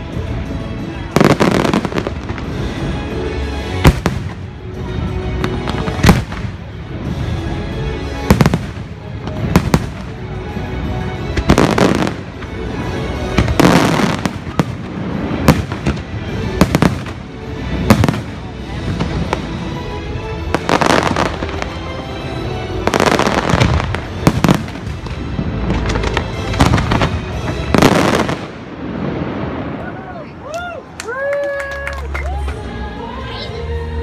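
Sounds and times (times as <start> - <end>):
music playing: 0.0 - 34.0
fireworks bursting with bangs: 0.1 - 7.4, 8.0 - 29.8.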